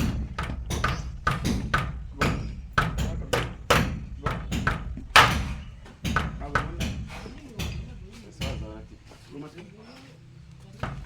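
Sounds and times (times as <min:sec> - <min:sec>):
building work knocks and taps: 0:00.0 - 0:09.1, 0:10.6 - 0:11.0.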